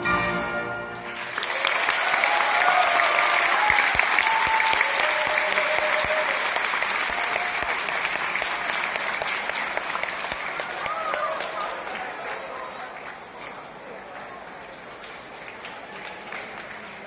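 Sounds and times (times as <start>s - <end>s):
audience applause: 0.9s - 17.0s.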